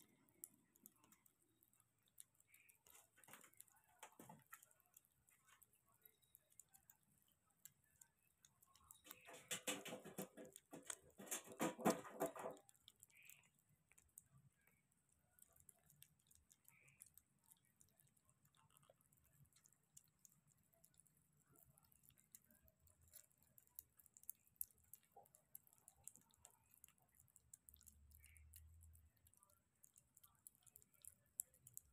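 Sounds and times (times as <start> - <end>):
kitten licking and chewing: 0.0 - 31.9.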